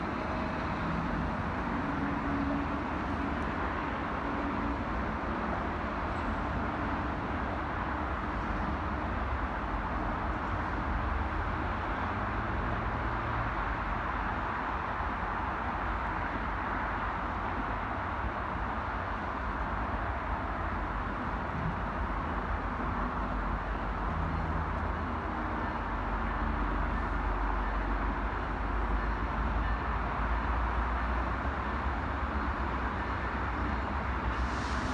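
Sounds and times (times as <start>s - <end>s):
train rumbling: 0.0s - 17.8s, 18.4s - 34.9s.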